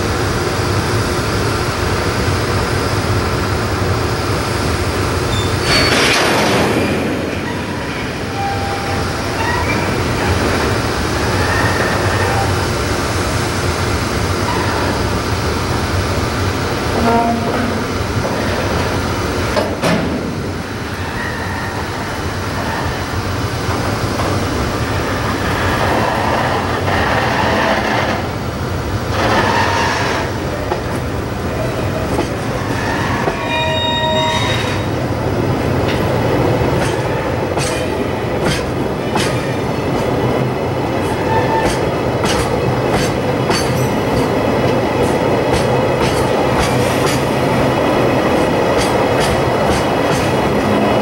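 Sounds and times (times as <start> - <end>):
train rolling rumble: 0.0 - 51.0.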